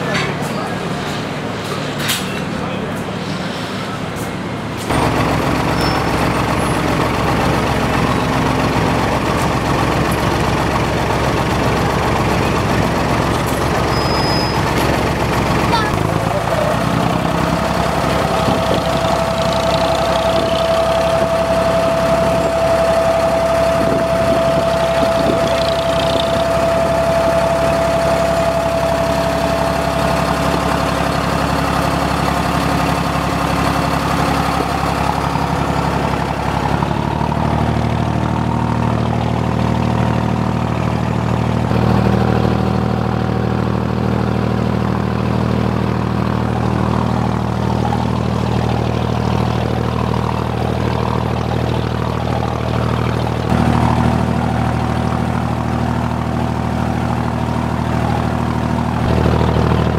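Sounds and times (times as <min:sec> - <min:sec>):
ferry diesel engine running: 0:00.0 - 0:59.9
high whine: 0:00.0 - 0:59.9.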